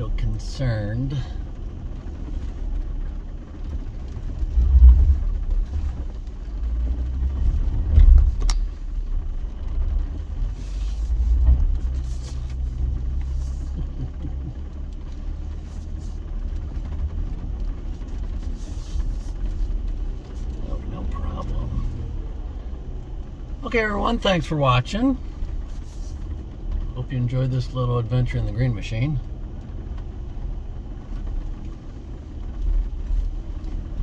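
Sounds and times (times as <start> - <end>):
off-road vehicle engine rumble: 0.0 - 34.0.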